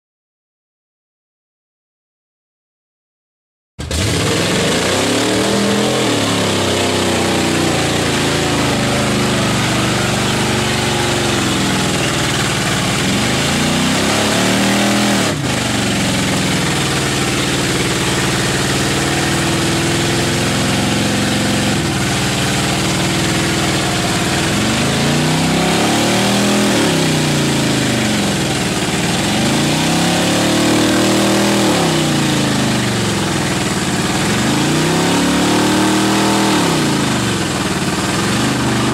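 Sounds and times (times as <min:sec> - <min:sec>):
truck churning through mud: 0:03.8 - 0:38.9
truck engine revving: 0:03.8 - 0:38.9.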